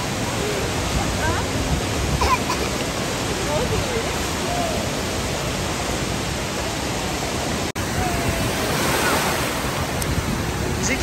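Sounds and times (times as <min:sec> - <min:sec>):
rushing wave pool water: 0:00.0 - 0:11.0.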